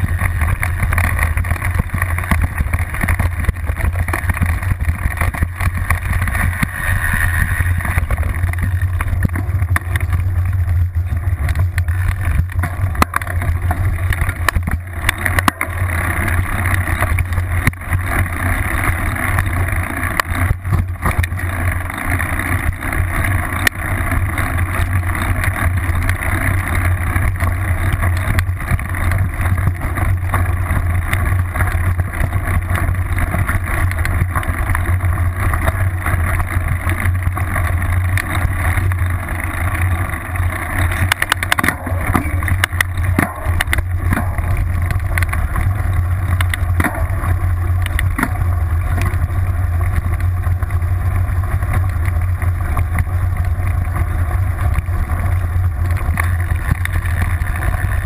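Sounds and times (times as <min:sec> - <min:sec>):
bike knocks and rattles: 0:00.0 - 0:58.0
bike tyre rumbling on gravel: 0:00.0 - 0:58.0.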